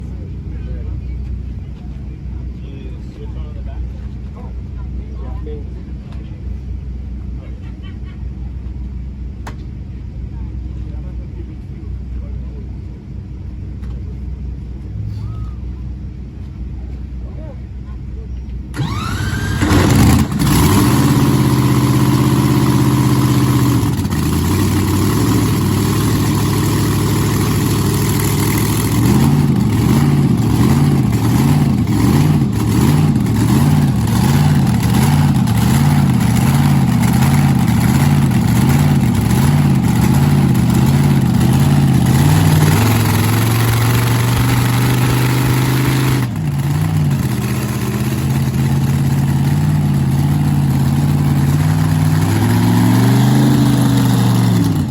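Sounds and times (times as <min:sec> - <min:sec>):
drag racing engines idling: 0:00.0 - 0:54.9.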